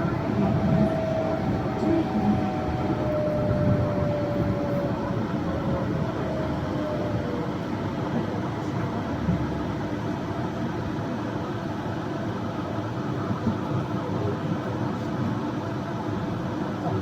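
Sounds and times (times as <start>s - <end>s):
train running: 0.0s - 15.1s.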